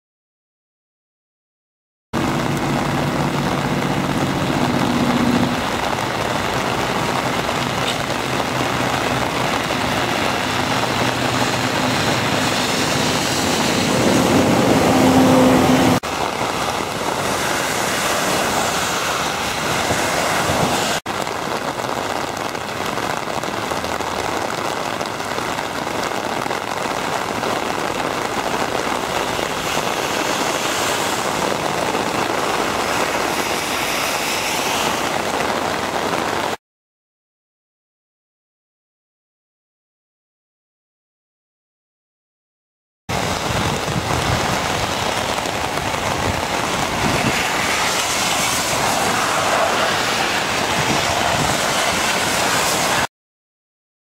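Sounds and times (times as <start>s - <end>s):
heavy rain: 2.2s - 36.6s, 43.1s - 53.1s
stormwater pouring through ditch: 2.2s - 36.6s, 43.1s - 53.1s.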